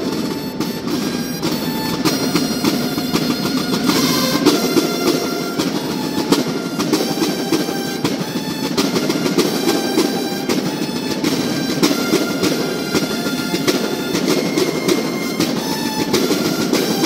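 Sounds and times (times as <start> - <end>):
bugles holding long notes: 0.0 - 17.0
snare drum rolls and beats: 0.0 - 17.0.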